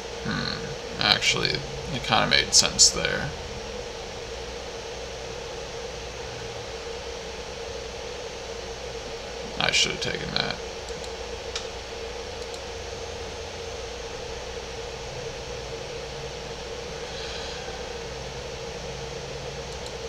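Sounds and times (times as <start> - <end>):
even hiss: 0.0 - 20.0
low rumble: 0.0 - 20.0
mid-pitched hum: 0.0 - 20.0.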